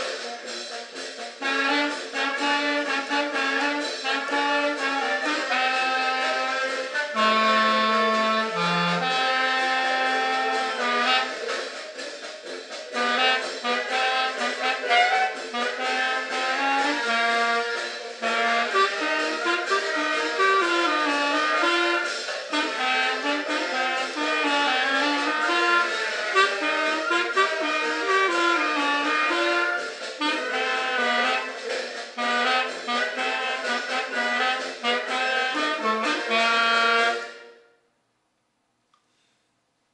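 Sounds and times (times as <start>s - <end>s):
solo wind instrument melody: 1.4s - 11.5s, 13.0s - 37.9s.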